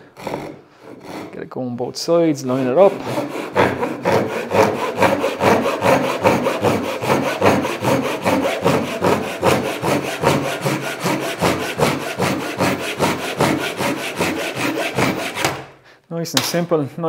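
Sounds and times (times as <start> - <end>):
hand saw cutting wood: 0.0 - 1.5, 2.2 - 15.8.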